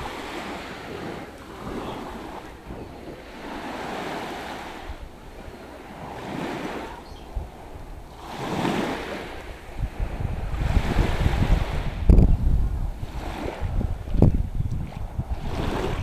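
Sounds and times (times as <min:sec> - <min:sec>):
small waves lapping on sand: 0:00.0 - 0:12.2, 0:12.9 - 0:16.0
wind rumble on microphone: 0:00.0 - 0:16.0.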